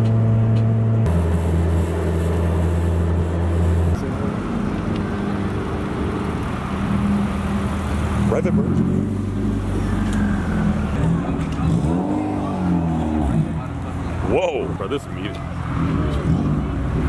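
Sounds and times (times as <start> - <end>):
car cruising drone: 0.0 - 17.0
car engine rolling past: 0.0 - 17.0.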